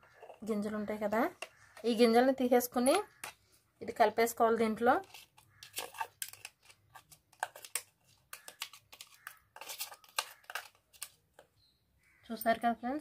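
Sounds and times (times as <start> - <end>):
spoon scraping plastic juicer: 0.0 - 2.2, 2.8 - 11.5.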